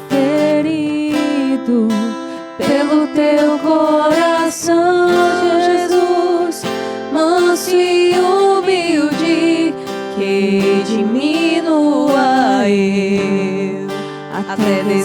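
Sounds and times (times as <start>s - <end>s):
acoustic guitar strumming: 0.0s - 15.0s
person singing: 0.0s - 15.0s.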